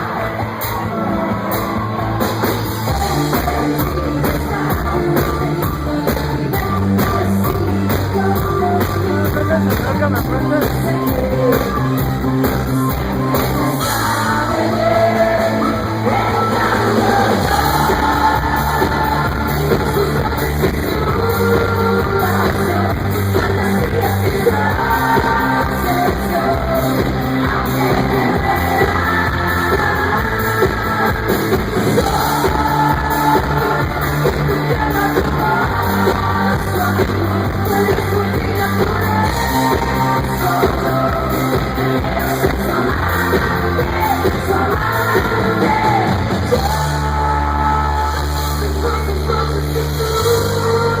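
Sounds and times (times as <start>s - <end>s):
steady drum beat: 0.0s - 46.9s
pop-rock band playing: 0.0s - 51.0s
woman singing: 2.8s - 51.0s.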